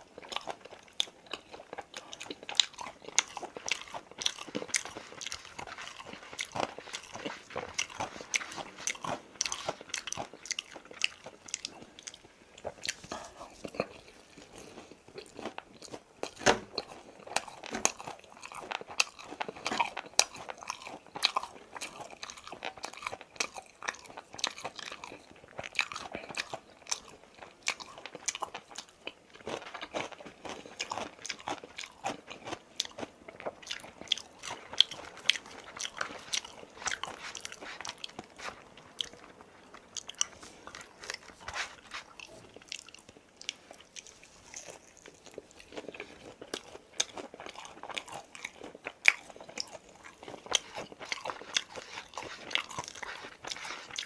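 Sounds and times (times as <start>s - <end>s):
chewing crispy fried chicken: 0.0s - 54.0s.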